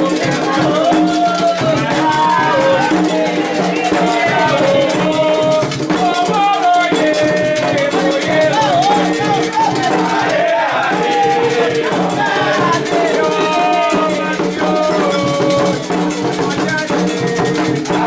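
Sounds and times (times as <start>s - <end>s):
drums: 0.0s - 18.0s
group singing a chant: 0.0s - 18.0s
shaken rattle: 0.0s - 18.0s.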